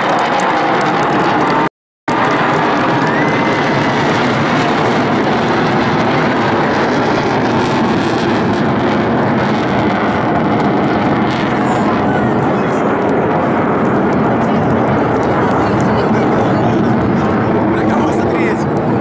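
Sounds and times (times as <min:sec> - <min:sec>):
fighter jets flying overhead: 0:00.0 - 0:19.0.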